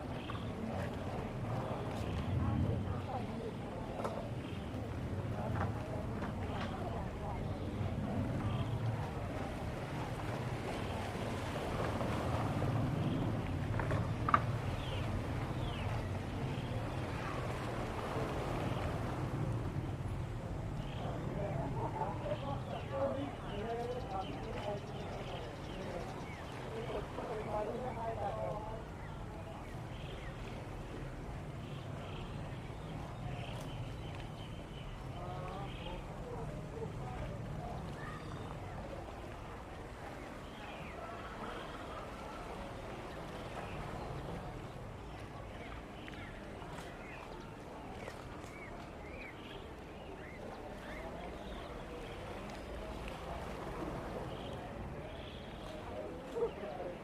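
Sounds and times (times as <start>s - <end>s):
faint distant voices: 0.0s - 57.0s.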